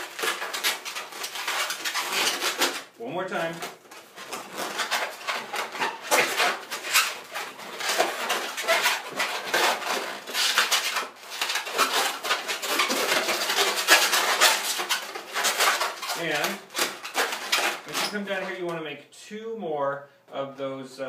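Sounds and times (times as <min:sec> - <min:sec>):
balloons squeaking and rubbing: 0:00.0 - 0:18.7.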